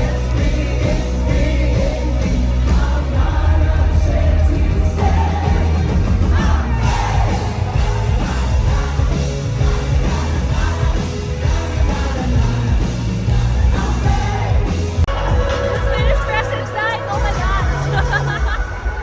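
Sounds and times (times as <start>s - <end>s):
song with heavy bass: 0.0s - 19.0s.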